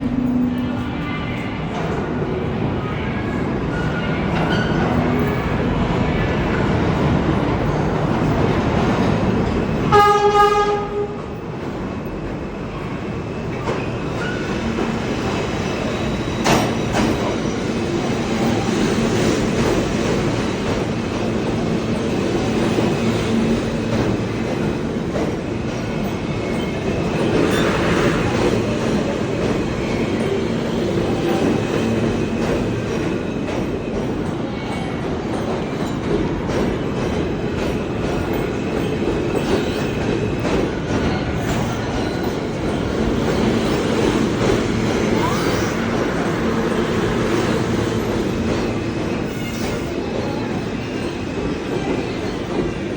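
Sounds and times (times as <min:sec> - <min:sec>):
subway train rumbling: 0:00.0 - 0:52.9.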